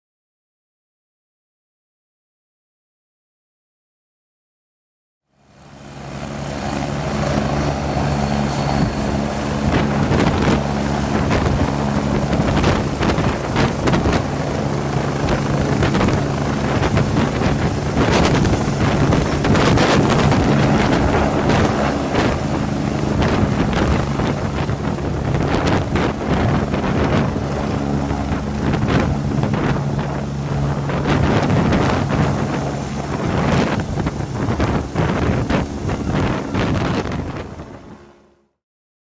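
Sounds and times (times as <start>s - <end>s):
helicopter rotor chopping: 5.4s - 38.2s.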